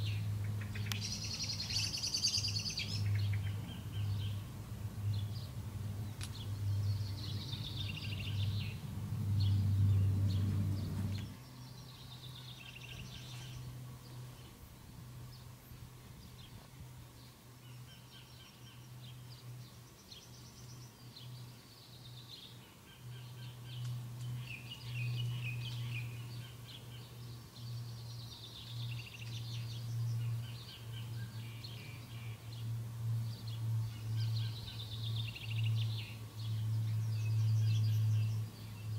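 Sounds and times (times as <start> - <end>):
songbirds chirping and singing: 0.0 - 14.6, 16.2 - 38.9
low steady hum: 0.0 - 38.9.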